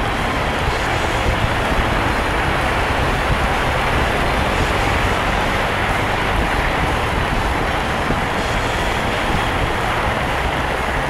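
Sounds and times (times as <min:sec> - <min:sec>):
motorcycle engine cruising: 0:00.0 - 0:11.0
wet road noise: 0:00.0 - 0:11.0
wind rushing: 0:00.0 - 0:11.0.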